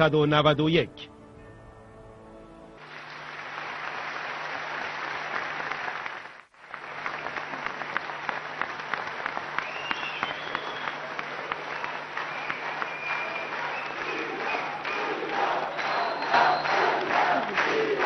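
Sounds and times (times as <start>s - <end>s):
audience applauding: 2.8s - 18.0s.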